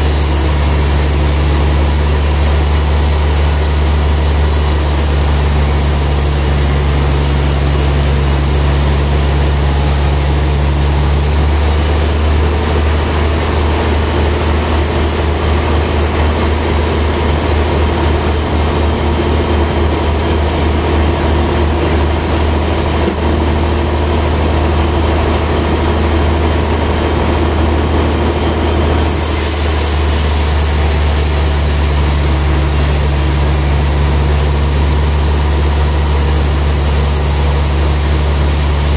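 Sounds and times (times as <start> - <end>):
band saw humming: 0.0 - 38.9.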